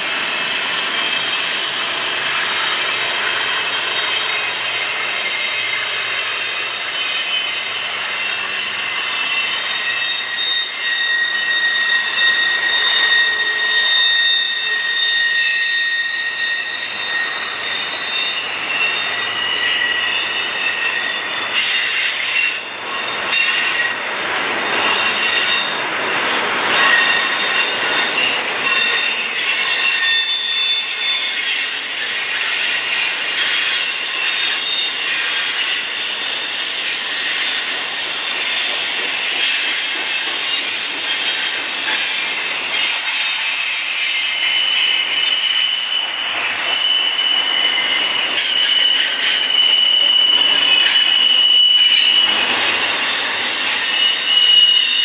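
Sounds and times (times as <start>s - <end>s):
steel wheels rumbling on rail: 0.0s - 55.0s
wheels squealing: 0.0s - 55.0s.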